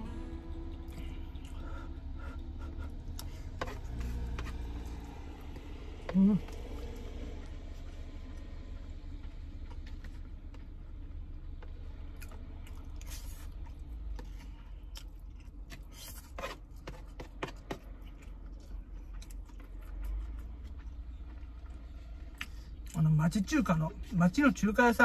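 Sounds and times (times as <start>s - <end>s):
steady low hum: 0.0s - 25.0s
chewing: 0.9s - 23.0s.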